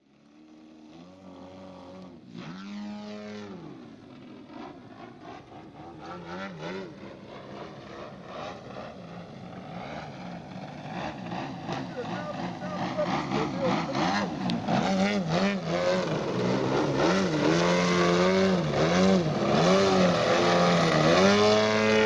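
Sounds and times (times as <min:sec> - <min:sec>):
model plane engine revving: 0:00.0 - 0:22.0.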